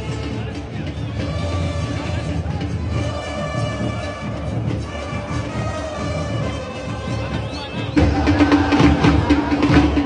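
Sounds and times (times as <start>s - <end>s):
music with held notes: 0.0s - 10.0s.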